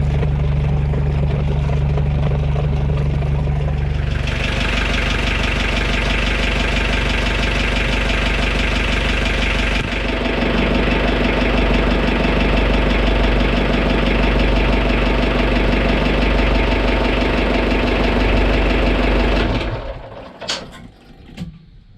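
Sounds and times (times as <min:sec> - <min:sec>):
boat engine running: 0:00.0 - 0:20.2.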